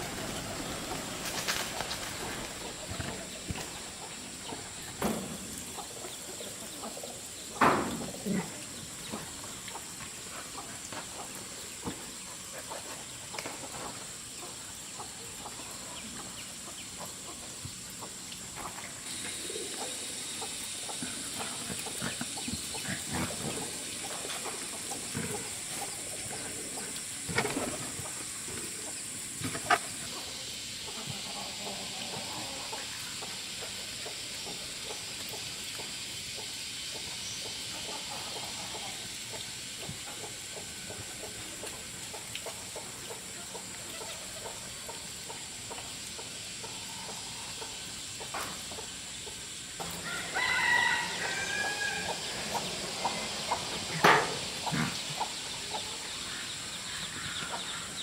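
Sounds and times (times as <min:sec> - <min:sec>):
chickens clucking: 0:00.0 - 0:58.0
high-pitched hiss: 0:00.0 - 0:58.0.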